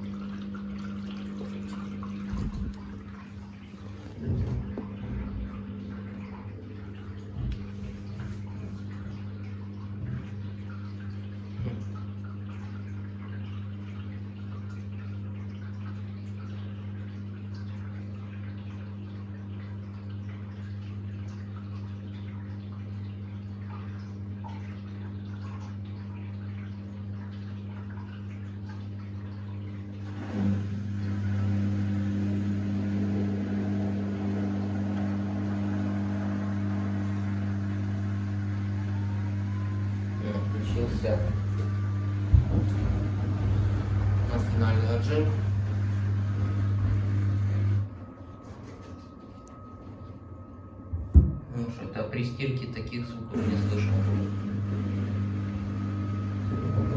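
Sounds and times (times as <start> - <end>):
drain pump humming: 0.0 - 56.9
water trickling: 0.0 - 56.9.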